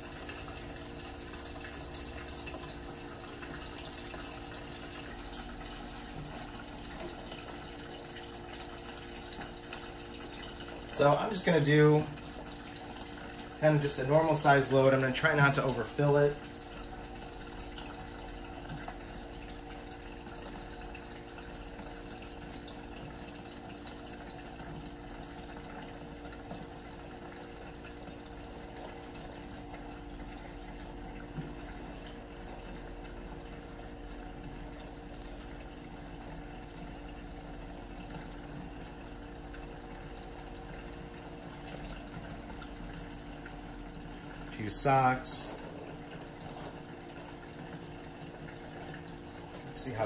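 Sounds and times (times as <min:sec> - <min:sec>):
water running into washer tub: 0:00.0 - 0:50.0.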